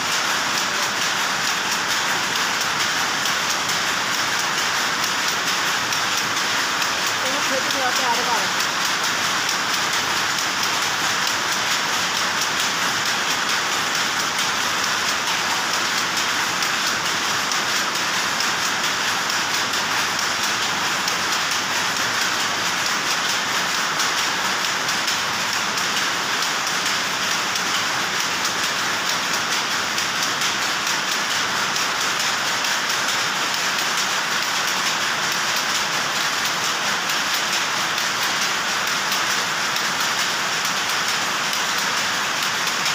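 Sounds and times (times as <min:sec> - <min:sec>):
power looms clattering: 0:00.0 - 0:42.9.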